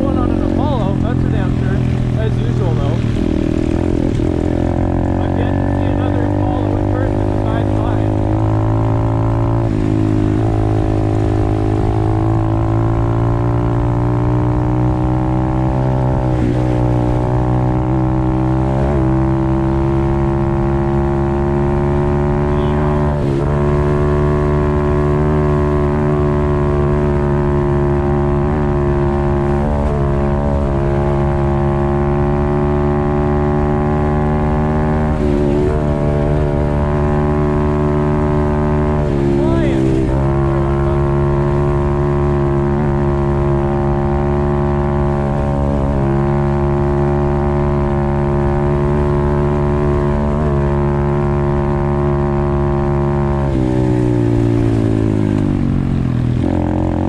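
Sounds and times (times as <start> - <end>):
motorbike engine revving high: 0.0 - 57.0.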